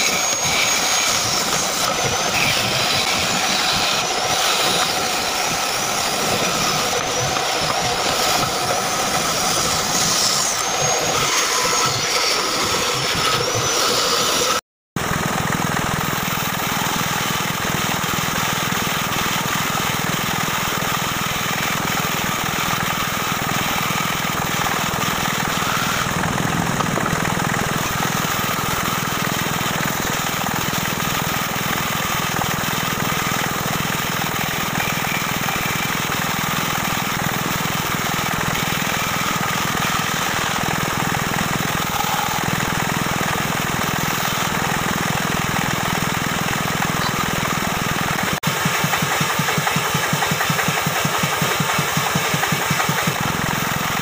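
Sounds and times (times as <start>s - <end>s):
band saw cutting wood: 0.0s - 54.0s.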